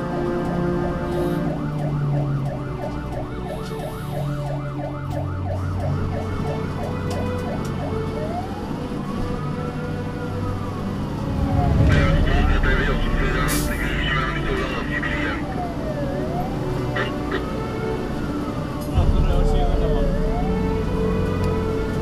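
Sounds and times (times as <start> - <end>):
fire engine siren: 0.0 - 22.0.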